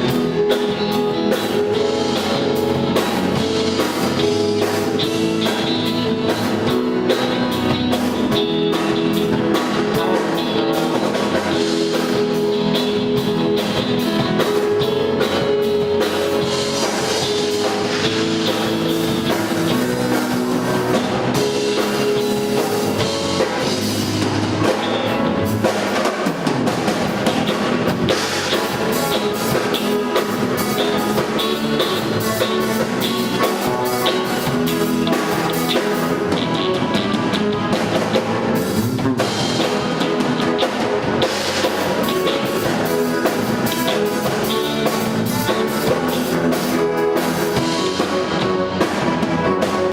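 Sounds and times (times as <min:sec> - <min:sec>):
live band playing: 0:00.0 - 0:49.9.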